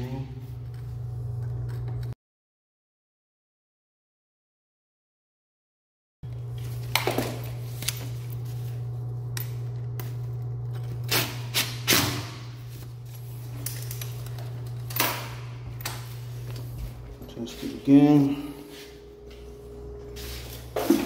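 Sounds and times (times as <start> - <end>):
low hum: 0.0 - 2.2, 6.2 - 21.0.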